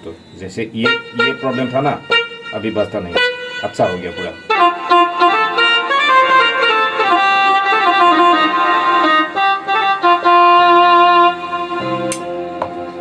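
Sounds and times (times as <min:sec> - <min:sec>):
keyboard playing reedy melody: 0:00.7 - 0:13.0.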